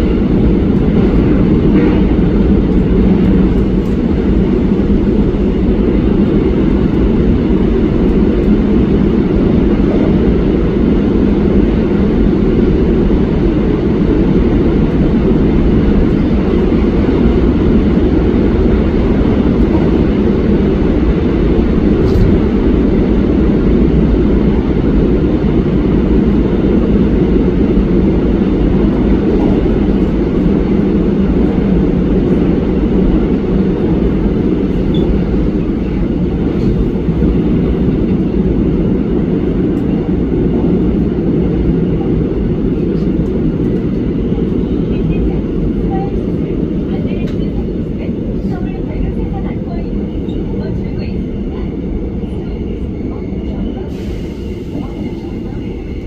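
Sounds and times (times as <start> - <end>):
train wheels rumbling in tunnel: 0.0 - 56.0.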